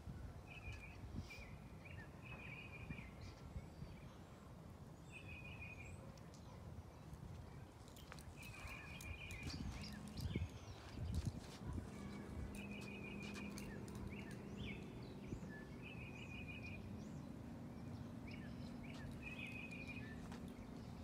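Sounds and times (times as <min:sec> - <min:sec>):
bird chirps: 0:00.5 - 0:04.2, 0:07.9 - 0:21.0.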